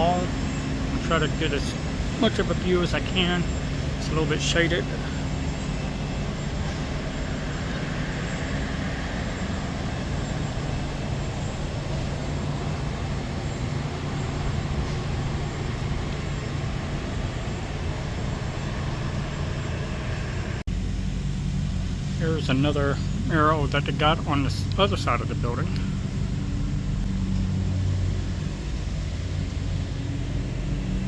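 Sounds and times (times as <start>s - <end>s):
background rumble and hiss: 0.0s - 31.0s
low hum: 0.0s - 31.0s.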